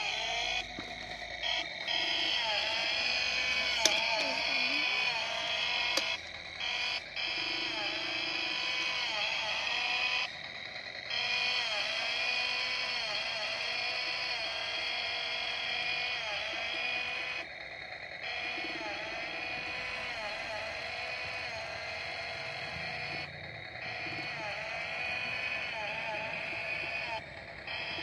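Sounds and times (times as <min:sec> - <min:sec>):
toy chainsaw electronic engine sound: 0:00.0 - 0:28.0.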